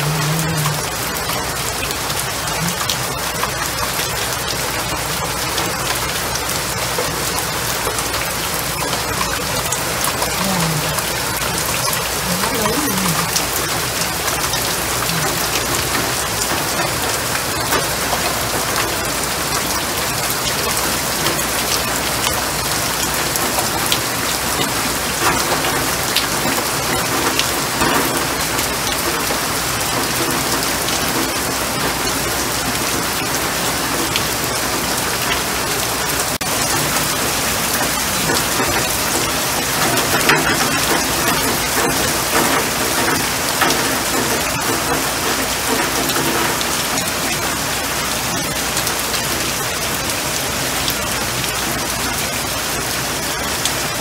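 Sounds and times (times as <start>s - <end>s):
rain splashing into water: 0.0s - 54.0s.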